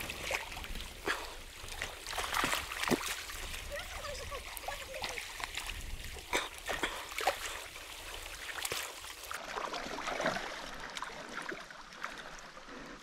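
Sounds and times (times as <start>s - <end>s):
fish splashing: 0.0s - 12.3s
shallow river flowing: 0.0s - 13.0s.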